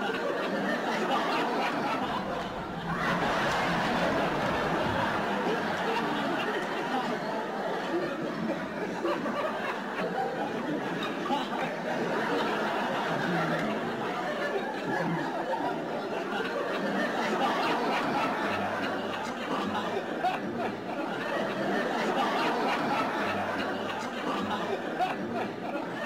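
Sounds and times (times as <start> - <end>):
crowd chatter: 0.0 - 26.0
people laughing: 0.0 - 26.0.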